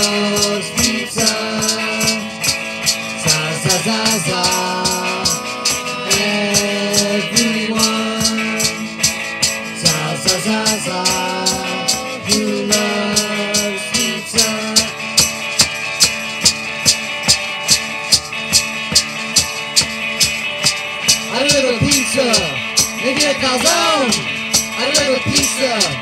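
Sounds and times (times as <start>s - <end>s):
shaker beat: 0.0s - 26.0s.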